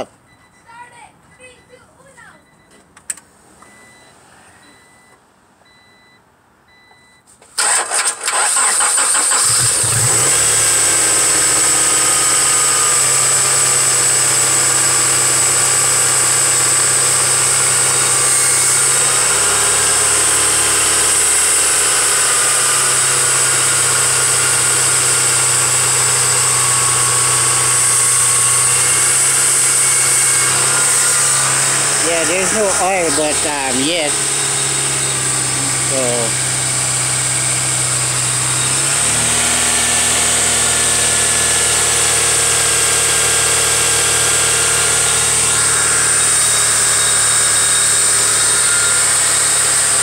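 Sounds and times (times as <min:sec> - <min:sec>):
car engine starting and idling: 0:07.4 - 0:50.0.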